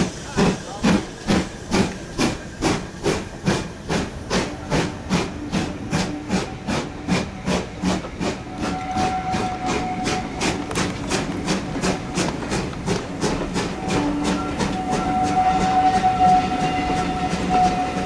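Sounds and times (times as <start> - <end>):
steam locomotive exhaust chuffs: 0.0 - 18.0.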